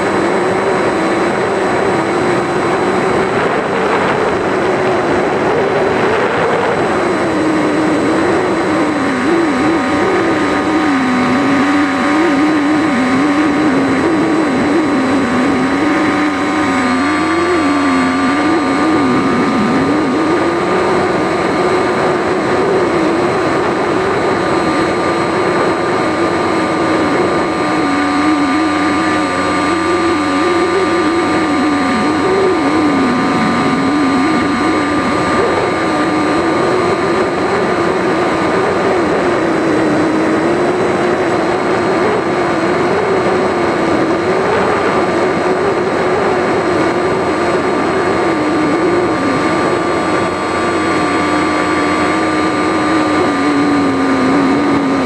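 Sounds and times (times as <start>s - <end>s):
electric motor and propeller whine: 0.0s - 55.0s
wind noise: 0.0s - 55.0s.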